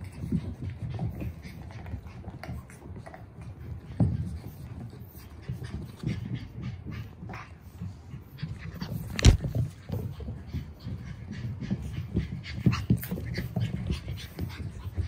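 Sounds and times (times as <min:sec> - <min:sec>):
puppies scuffling with toys: 0:00.0 - 0:15.0.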